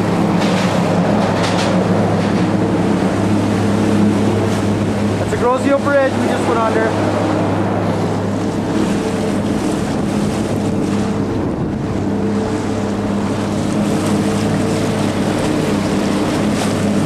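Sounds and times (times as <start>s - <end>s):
boat engine droning: 0.0s - 17.0s
water rushing along hull: 0.0s - 17.0s
wind buffeting microphone: 0.0s - 17.0s.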